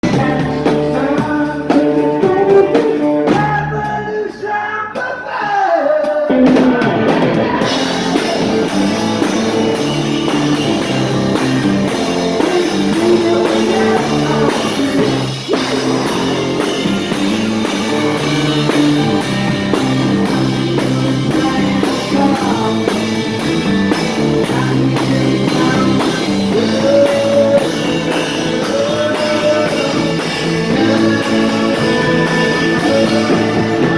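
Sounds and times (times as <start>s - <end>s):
drum kit: 0.0s - 33.9s
electric guitar: 0.0s - 33.9s
person singing: 0.0s - 33.9s.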